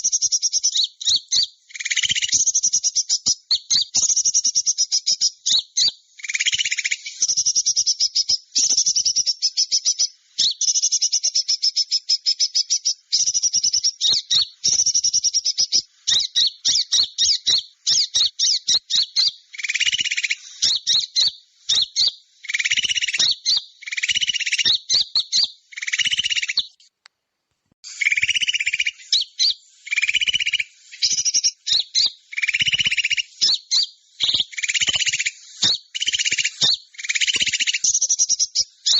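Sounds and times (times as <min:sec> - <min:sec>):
small birds chattering: 0:00.0 - 0:26.9, 0:27.8 - 0:38.9.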